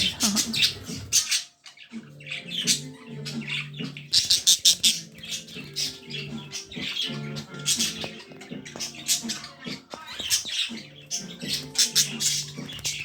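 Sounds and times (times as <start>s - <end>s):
background music with low notes: 0.0s - 13.0s
budgerigars chirping: 0.0s - 13.0s.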